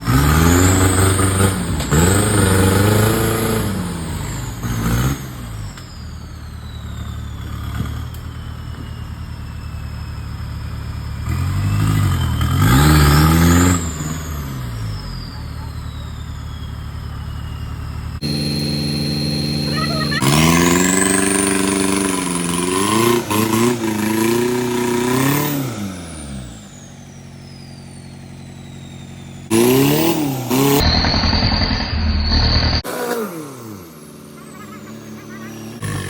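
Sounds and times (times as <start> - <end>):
engine revving hard: 0.0 - 5.8, 11.1 - 36.0.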